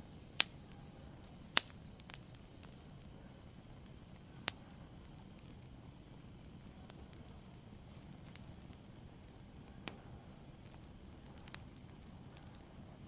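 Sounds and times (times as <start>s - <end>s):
fire crackling pops: 0.0s - 13.0s
wood fire hissing: 0.0s - 13.0s.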